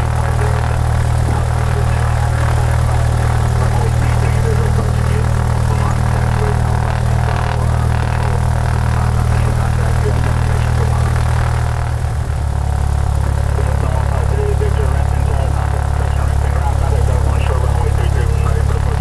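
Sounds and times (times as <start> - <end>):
propeller plane engine running: 0.0 - 19.0.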